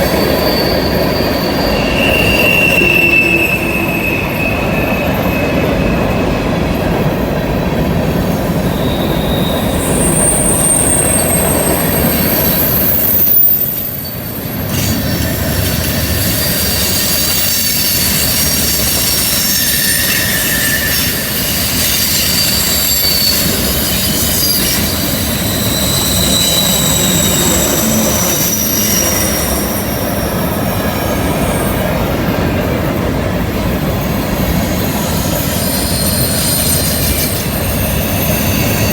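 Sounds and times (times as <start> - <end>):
wheel flanges squealing: 0.0 - 6.6, 8.3 - 32.1, 34.0 - 38.9
rumble of wheels on rail: 0.0 - 38.9.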